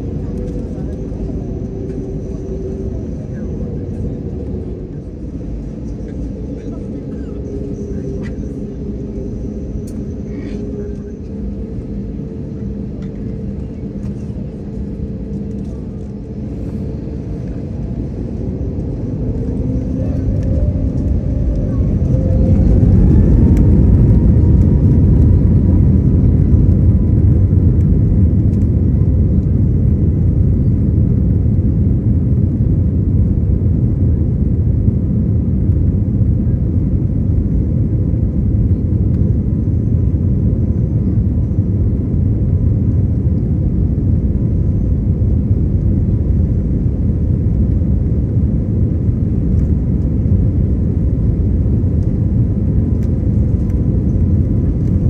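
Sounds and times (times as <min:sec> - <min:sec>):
jet engine rumble in cabin: 0:00.0 - 0:55.0
jet engine whine: 0:00.0 - 0:55.0.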